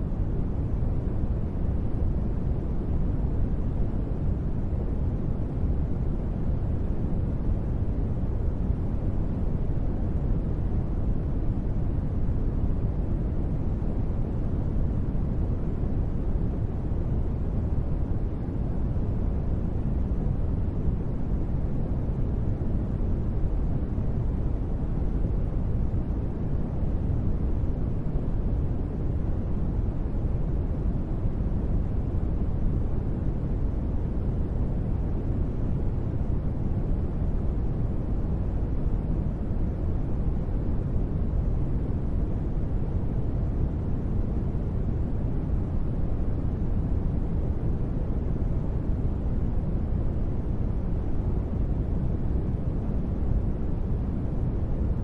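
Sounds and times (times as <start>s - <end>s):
deep rumbling ambient noise: 0.0s - 55.0s.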